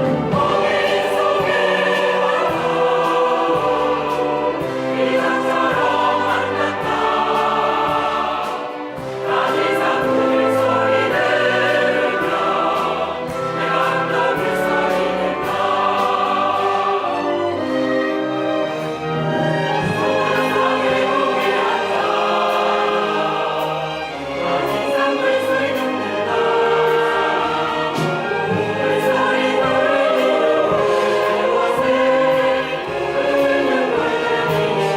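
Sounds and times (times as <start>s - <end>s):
choir singing: 0.0s - 34.9s.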